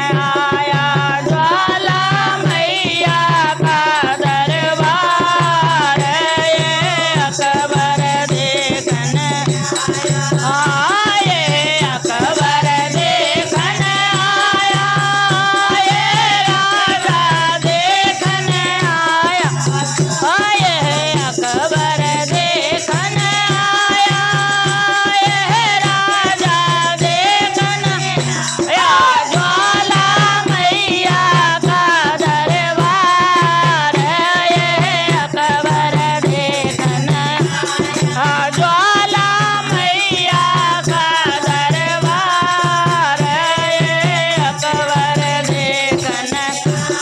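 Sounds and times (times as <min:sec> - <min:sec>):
hand drum beating: 0:00.0 - 0:47.0
women singing devotional song: 0:00.0 - 0:47.0.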